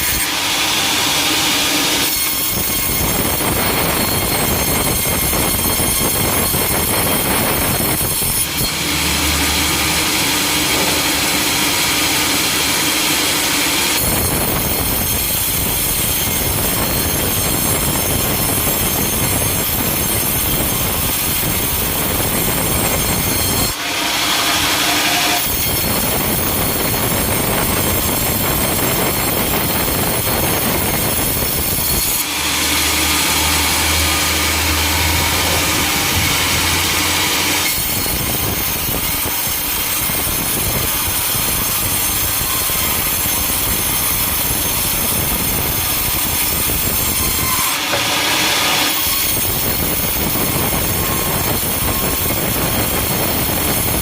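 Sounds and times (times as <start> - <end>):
sawmill machinery with high whine: 0.0 - 54.0.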